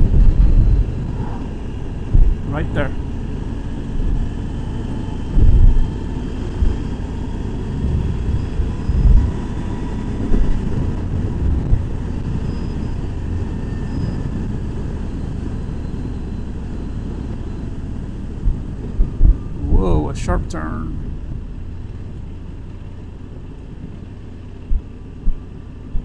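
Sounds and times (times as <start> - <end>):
wind buffeting microphone: 0.0 - 20.1, 20.9 - 26.0
motorcycle engine drone: 0.0 - 26.0.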